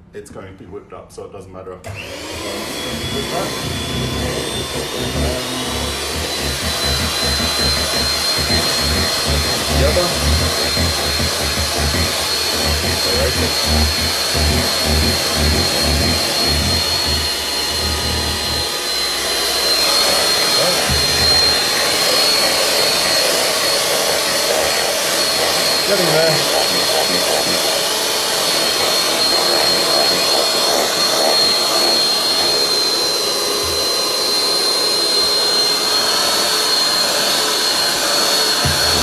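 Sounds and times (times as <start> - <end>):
hand mixer motor whine: 1.9 - 39.0.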